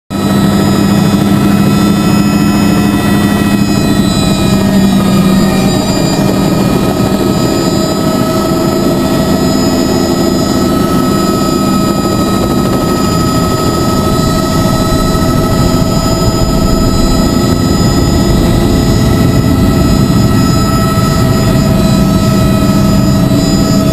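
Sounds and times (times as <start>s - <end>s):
helicopter engine and rotor drone: 0.1s - 23.9s
whining tones: 0.2s - 23.9s.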